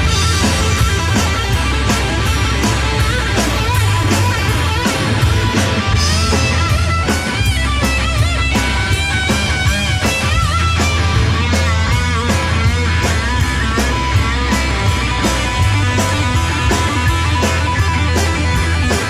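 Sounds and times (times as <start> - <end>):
bass guitar: 0.0 - 19.0
drums: 0.0 - 19.0
electric guitar lead: 0.0 - 19.0.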